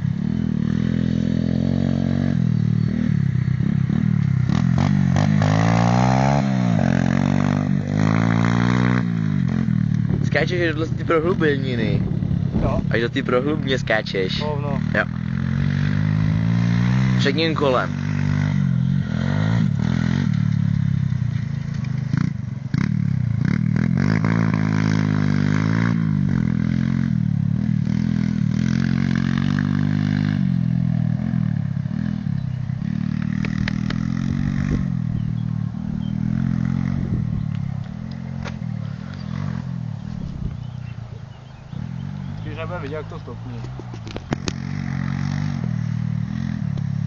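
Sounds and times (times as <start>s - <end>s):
moped engine revving: 0.0s - 47.0s.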